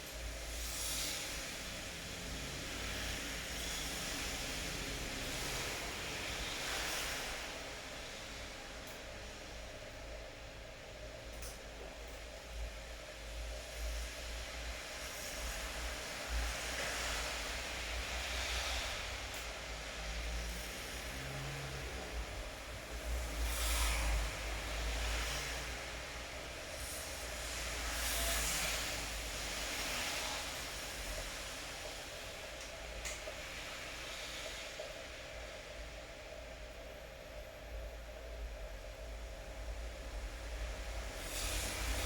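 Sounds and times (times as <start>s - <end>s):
rain hissing: 0.0s - 9.6s, 13.2s - 36.4s, 39.3s - 42.0s.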